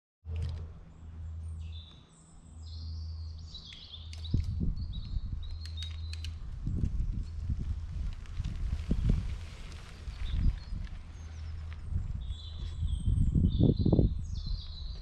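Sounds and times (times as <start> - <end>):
steady low rumble: 0.3 - 15.0
songbirds singing: 0.8 - 7.7, 9.8 - 15.0.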